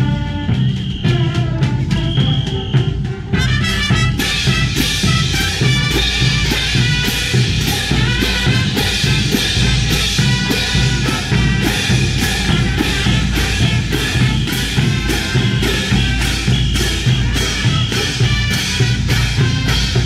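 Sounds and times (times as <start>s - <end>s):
brass band playing: 0.0s - 20.0s
drums and cymbals striking: 0.0s - 20.0s.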